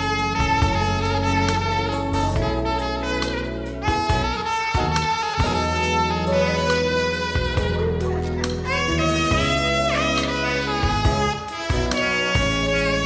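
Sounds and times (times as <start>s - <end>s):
bass: 0.0s - 13.0s
drums: 0.0s - 13.0s
horn playing long notes: 0.0s - 13.0s.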